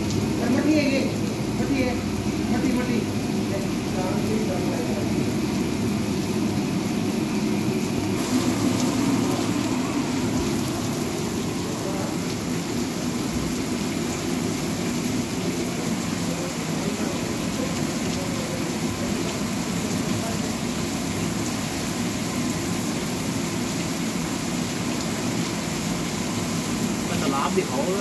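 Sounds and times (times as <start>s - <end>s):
heavy rain splashing on pavement: 0.0s - 28.0s.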